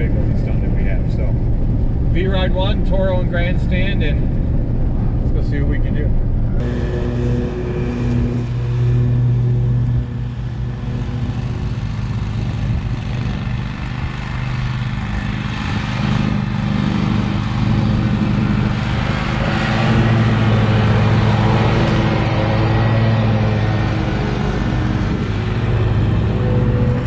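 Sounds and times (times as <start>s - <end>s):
lawn mower engines droning: 0.0s - 27.0s.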